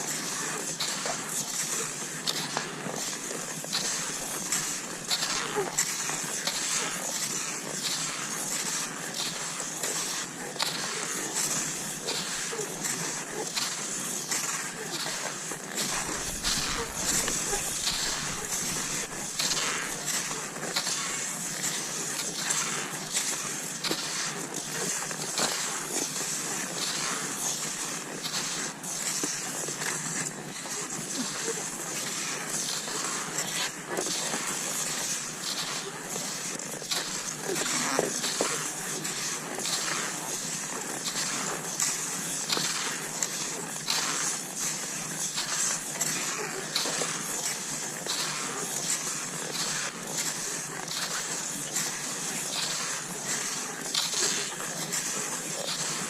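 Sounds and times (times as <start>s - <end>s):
skis swishing over snow: 0.0s - 56.0s.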